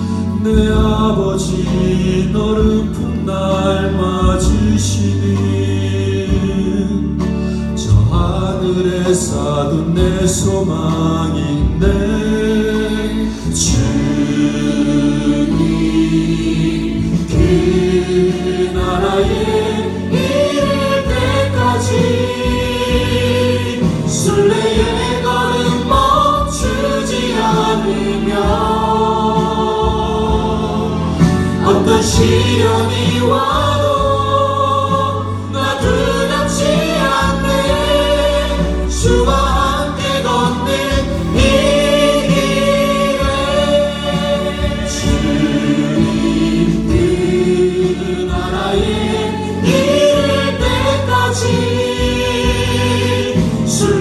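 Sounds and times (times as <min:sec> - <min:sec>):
live band with bass: 0:00.0 - 0:54.0
voices singing together: 0:00.0 - 0:54.0.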